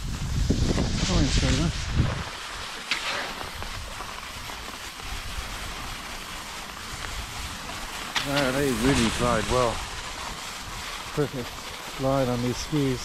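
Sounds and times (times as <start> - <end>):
skis hissing over snow: 0.0 - 13.0.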